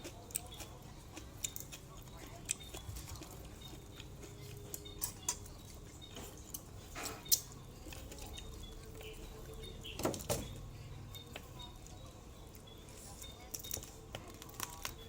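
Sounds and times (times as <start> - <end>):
eating clicks and crunches: 0.0 - 10.3, 11.1 - 15.0.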